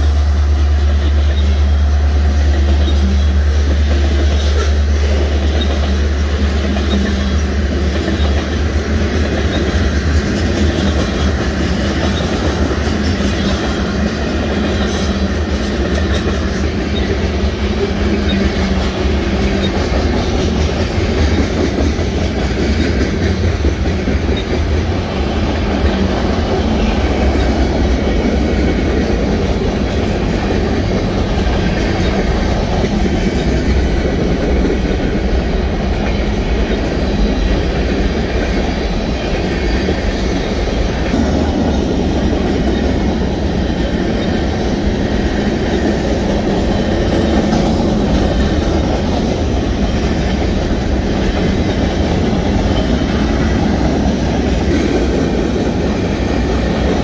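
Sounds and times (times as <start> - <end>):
freight train rumbling past: 0.0 - 57.0
steel wheels clattering on rails: 0.0 - 57.0.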